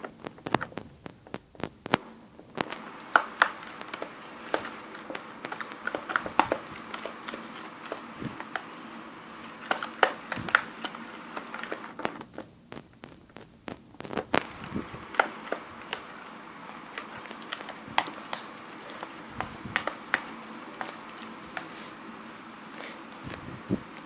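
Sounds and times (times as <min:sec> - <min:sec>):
slime being stirred squelching: 0:02.6 - 0:12.4, 0:14.4 - 0:24.0.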